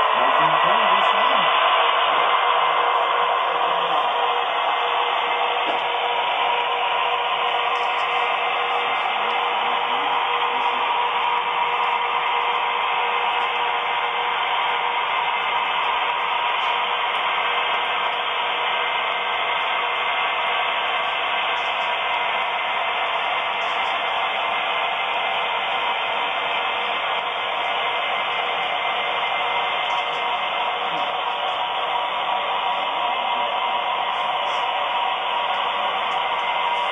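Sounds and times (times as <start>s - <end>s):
model train whirring: 0.0s - 36.9s.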